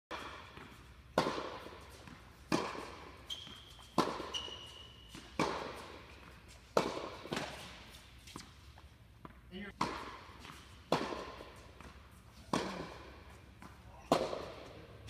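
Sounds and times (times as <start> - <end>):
tennis racket hitting ball: 0.1 - 15.0.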